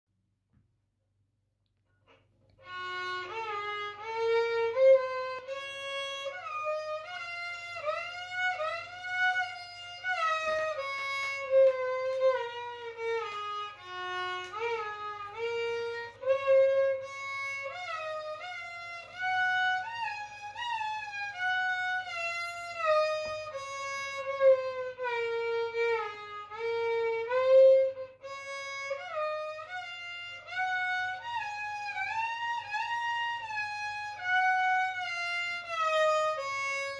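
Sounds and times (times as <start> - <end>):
solo violin melody: 2.1 - 36.9.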